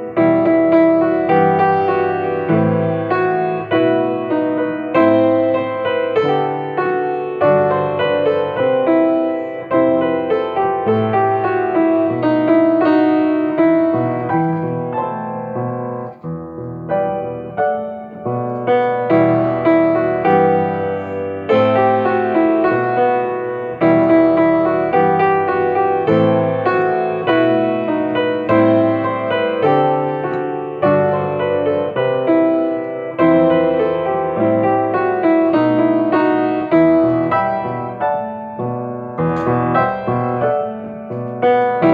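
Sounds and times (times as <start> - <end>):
piano playing a hymn: 0.0 - 41.9.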